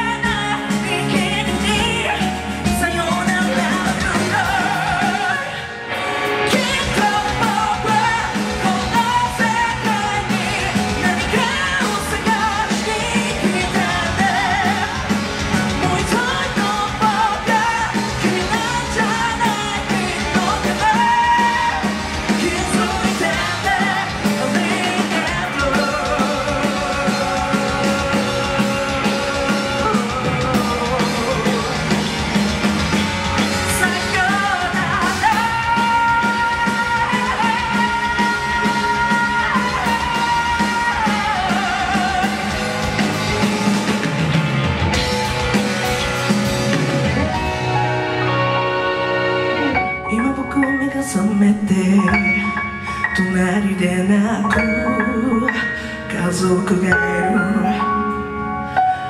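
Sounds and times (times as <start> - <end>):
electric bass: 0.0 - 58.8
drums: 0.0 - 59.0
electric guitar: 0.0 - 59.0
person singing: 0.0 - 59.0.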